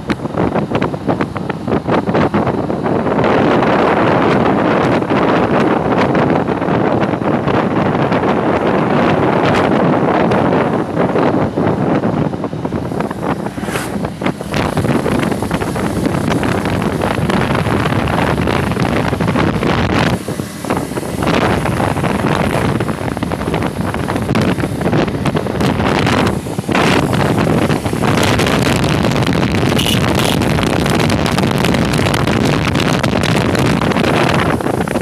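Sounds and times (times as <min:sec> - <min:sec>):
motorcycle engine running: 0:00.0 - 0:35.0
wind buffeting microphone: 0:00.0 - 0:35.0.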